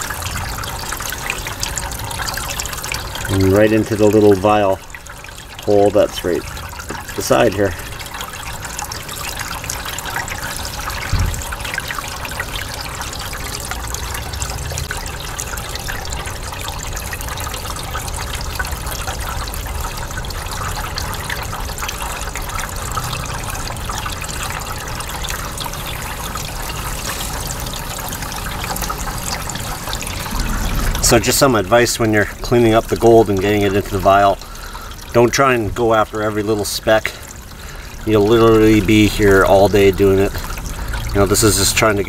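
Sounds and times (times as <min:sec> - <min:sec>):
water trickling: 0:00.0 - 0:42.0.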